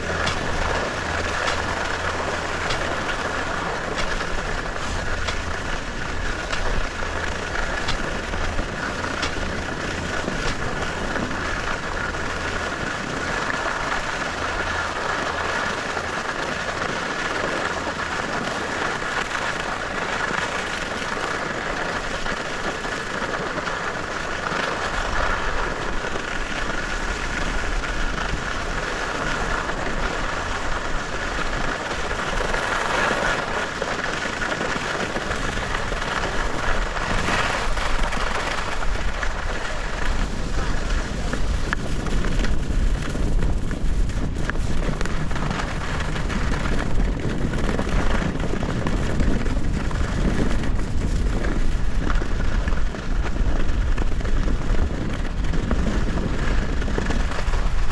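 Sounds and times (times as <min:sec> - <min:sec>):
skis sliding over snow: 0:00.0 - 0:57.9.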